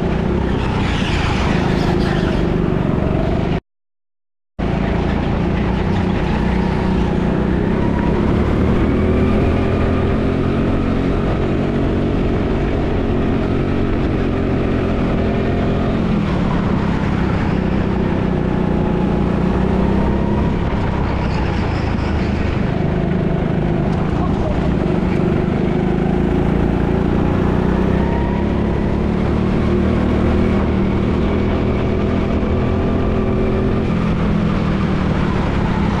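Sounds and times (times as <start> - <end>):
go-kart engine running hard: 0.0 - 3.6, 4.6 - 36.0.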